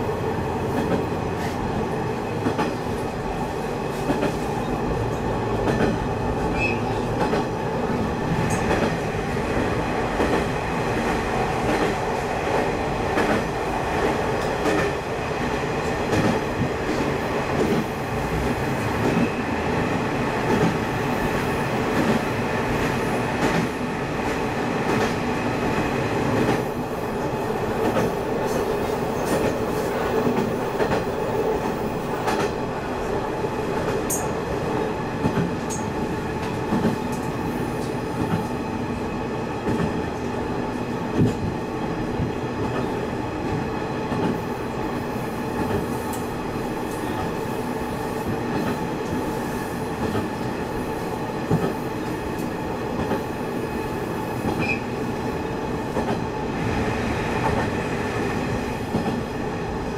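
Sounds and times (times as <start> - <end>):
train engine and wheels rumbling: 0.0 - 59.9.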